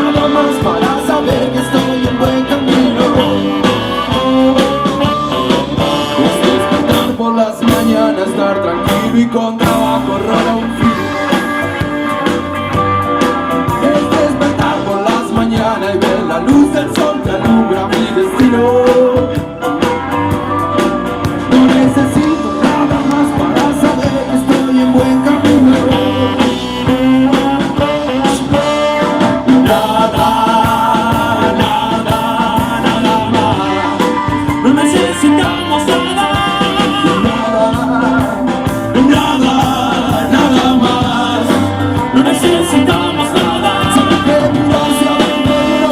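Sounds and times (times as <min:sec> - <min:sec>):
steady drum beat: 0:00.0 - 0:08.2, 0:08.9 - 0:45.9
blues-rock band playing: 0:00.0 - 0:45.9
guitar: 0:00.0 - 0:45.9
person singing: 0:00.0 - 0:45.9.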